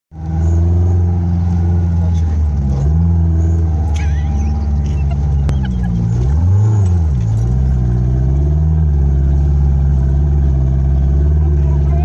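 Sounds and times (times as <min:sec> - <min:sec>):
buggy engine revving under load: 0:00.2 - 0:12.0.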